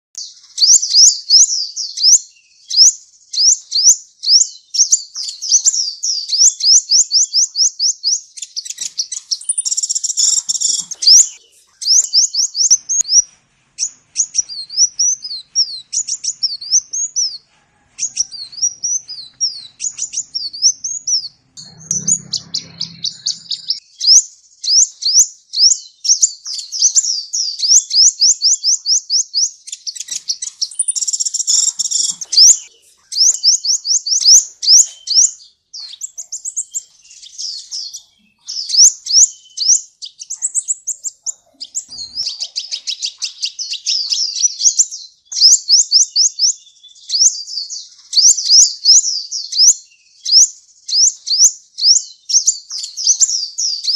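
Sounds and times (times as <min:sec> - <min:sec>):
sunbird chirping: 0:00.2 - 0:53.9.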